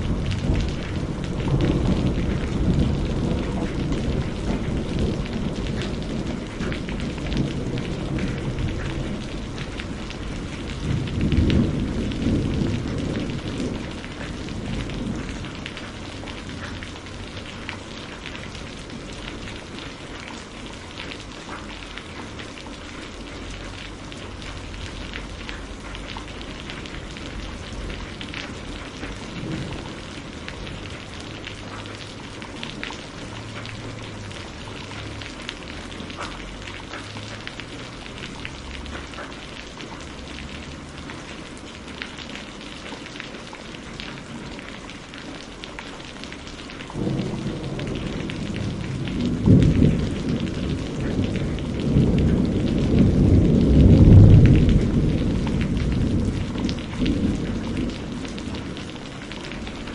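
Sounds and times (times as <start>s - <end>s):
low rumble of thunder: 0.0s - 59.9s
small ticks and drips: 0.0s - 59.9s
steady rain: 0.0s - 59.9s.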